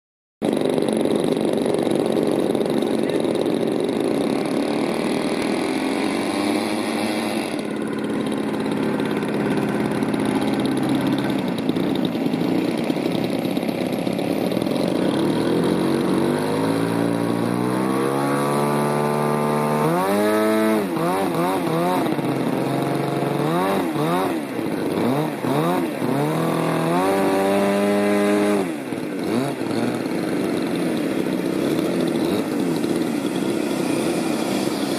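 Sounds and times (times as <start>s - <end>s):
model aircraft engine revving: 0.4s - 34.9s.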